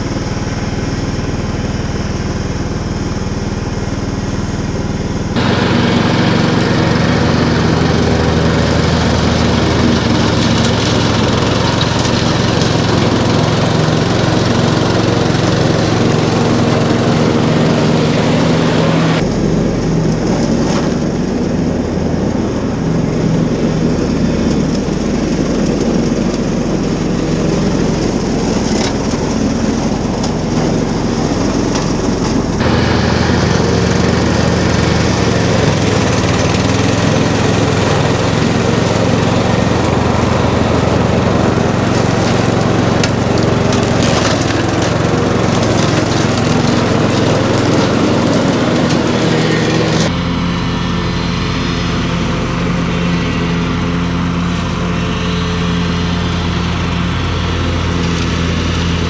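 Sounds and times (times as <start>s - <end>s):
ride-on lawn mower engine: 0.0s - 59.0s.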